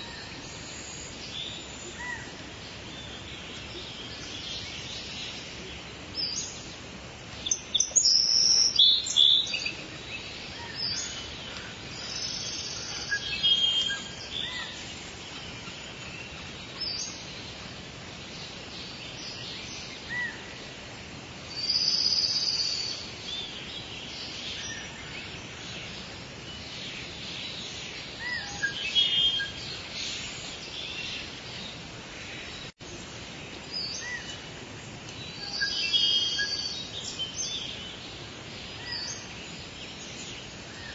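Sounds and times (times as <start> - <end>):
rain hiss: 0.0 - 40.9
small birds chirping: 0.0 - 40.9.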